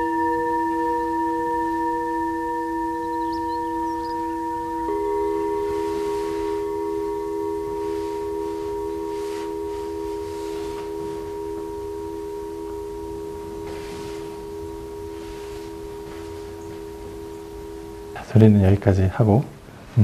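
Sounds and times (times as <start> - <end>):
metal singing bowl ringing: 0.0 - 19.3.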